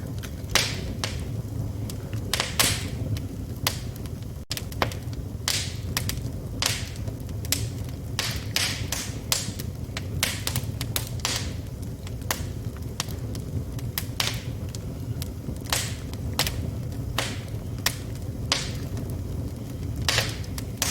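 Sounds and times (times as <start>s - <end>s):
low fire rumble: 0.0s - 20.9s
wood fire crackling and popping: 0.0s - 20.9s.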